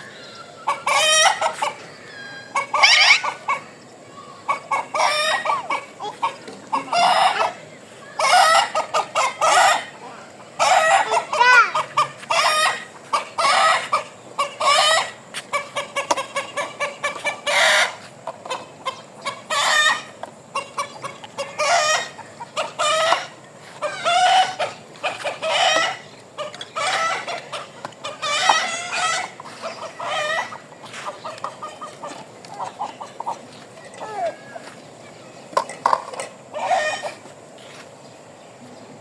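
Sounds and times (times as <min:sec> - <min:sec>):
bird clucking calls: 0:00.6 - 0:37.8.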